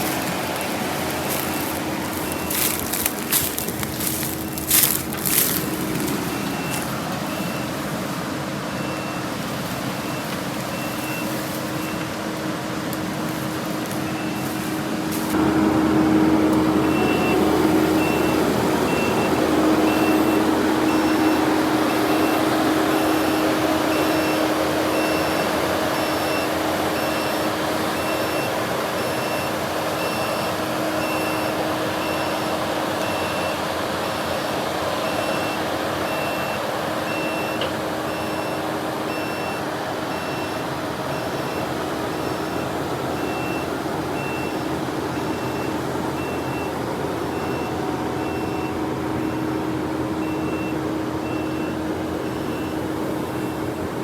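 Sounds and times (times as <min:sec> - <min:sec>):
backup alarm beeping: 0:00.0 - 0:53.8
heavy vehicle engine running: 0:00.0 - 0:54.0.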